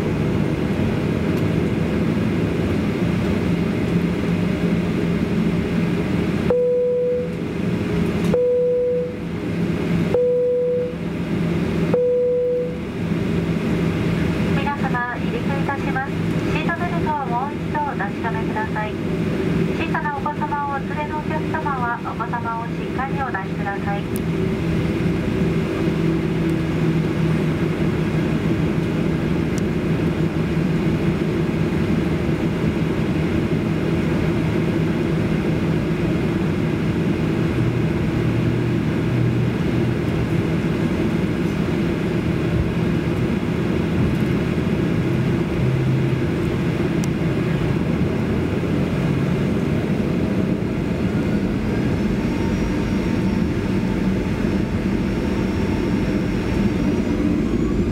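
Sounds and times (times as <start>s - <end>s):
jet engine drone in cabin: 0.0s - 57.9s
jet engine rising whine: 0.0s - 57.9s.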